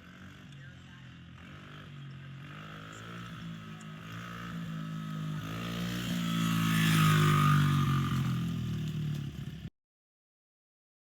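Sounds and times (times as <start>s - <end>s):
dirt bike engine running: 0.0s - 9.7s.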